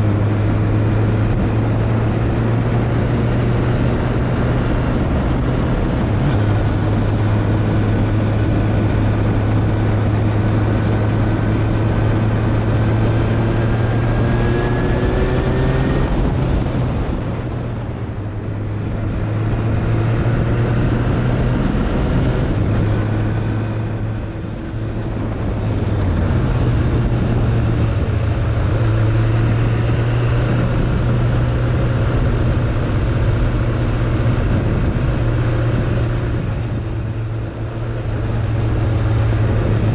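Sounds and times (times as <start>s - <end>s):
motorcycle engine running: 0.0s - 39.9s
road noise: 0.0s - 39.9s
rushing wind: 0.0s - 39.9s.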